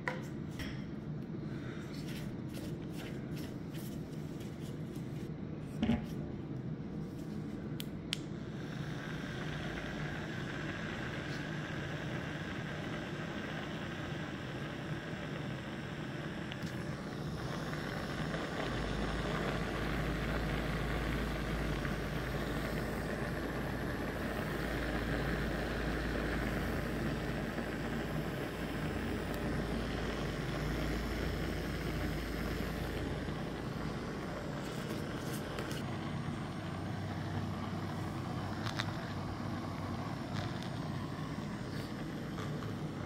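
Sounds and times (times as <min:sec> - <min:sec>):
small electric motor humming: 0:08.4 - 0:43.0.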